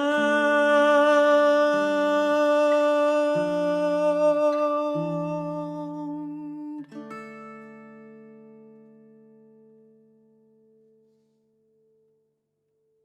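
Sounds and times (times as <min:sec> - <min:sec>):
acoustic guitar: 0:00.0 - 0:12.3.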